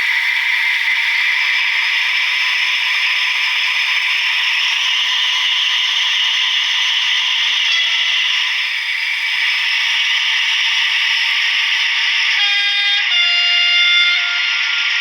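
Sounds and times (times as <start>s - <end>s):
model locomotive speaker diesel hiss: 0.0s - 12.9s.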